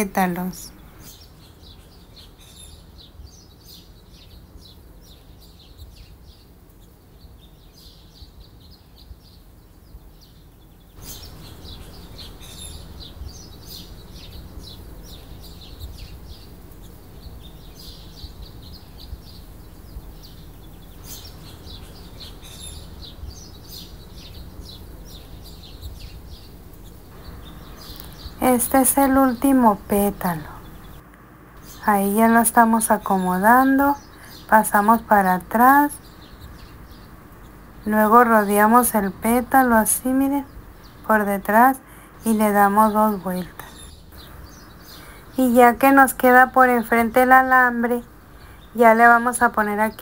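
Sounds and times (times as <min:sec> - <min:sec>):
faint bird chirps: 0:00.0 - 0:50.0
low steady hum: 0:00.0 - 0:50.0.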